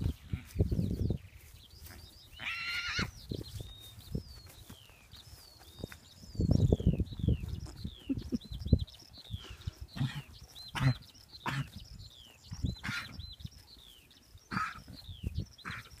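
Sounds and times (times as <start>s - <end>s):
horses rustling and thudding: 0.0s - 16.0s
songbird singing: 0.0s - 16.0s.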